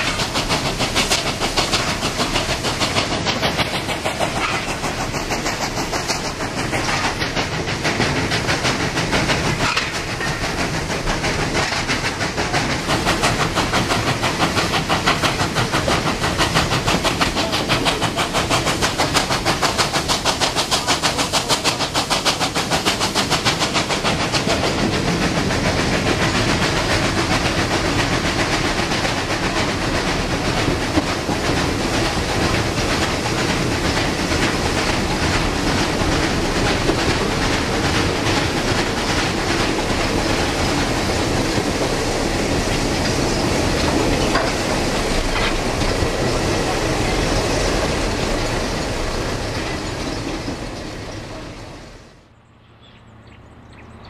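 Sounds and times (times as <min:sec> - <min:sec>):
steam hissing: 0:00.0 - 0:52.3
steam locomotive exhaust beats: 0:00.0 - 0:52.9.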